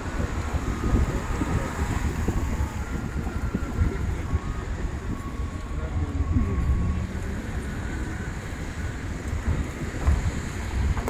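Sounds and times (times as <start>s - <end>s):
car tyres and engine rumble: 0.0s - 11.0s
wind buffeting microphone: 0.0s - 11.0s.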